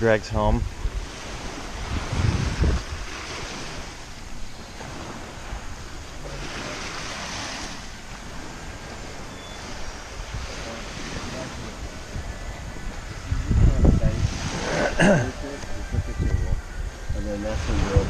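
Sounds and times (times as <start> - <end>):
wind gusting on microphone: 0.0 - 18.0.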